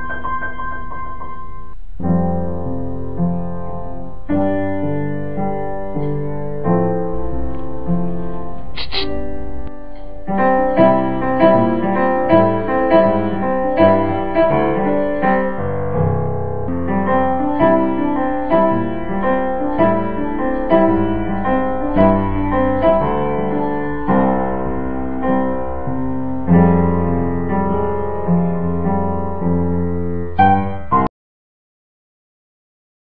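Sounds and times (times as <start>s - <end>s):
piano music: 0.0s - 31.1s.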